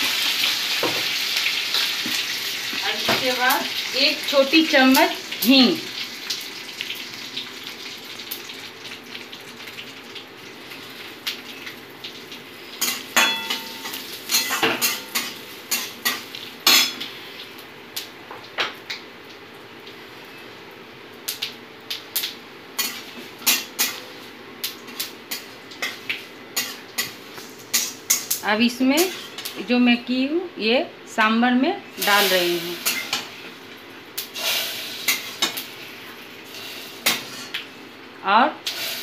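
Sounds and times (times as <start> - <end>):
hot oil sizzling: 0.0 - 30.3, 31.8 - 39.0.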